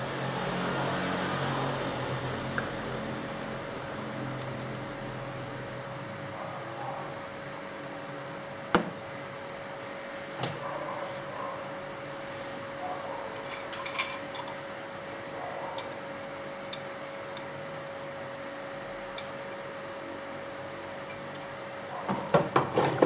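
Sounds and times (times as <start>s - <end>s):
faint steady hum: 0.0s - 22.1s.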